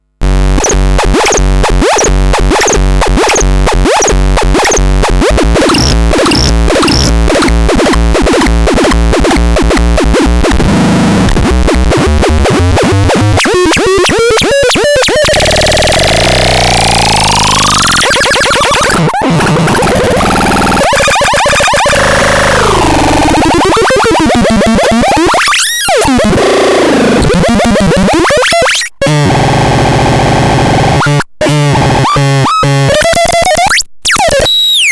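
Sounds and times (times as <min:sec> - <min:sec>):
harsh synthesizer noise: 0:00.2 - 0:34.9.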